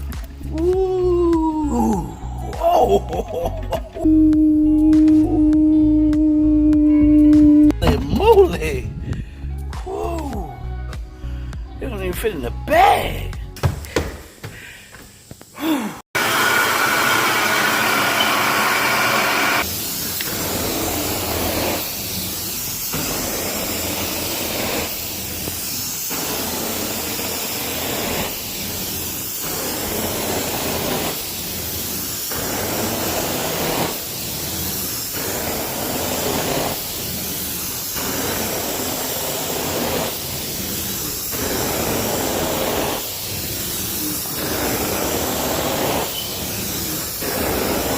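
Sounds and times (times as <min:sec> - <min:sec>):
extraction wand spraying and sucking water: 0:00.0 - 0:10.9, 0:16.2 - 0:47.9.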